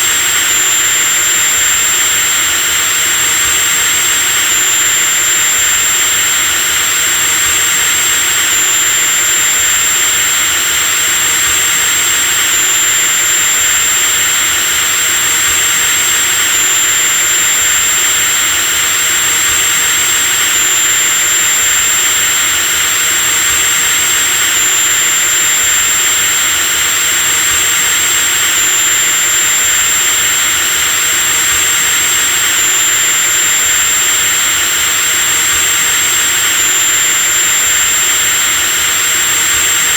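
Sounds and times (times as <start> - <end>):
electric drill motor whining: 0.0 - 39.9.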